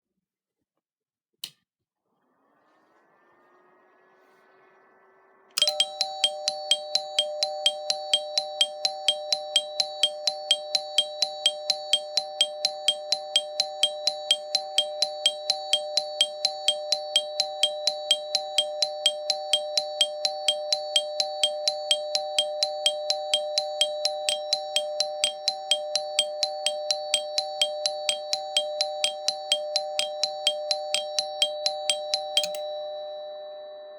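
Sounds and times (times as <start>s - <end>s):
steady ringing tone: 3.2s - 33.9s
metallic alarm bell struck rapidly: 5.6s - 33.9s.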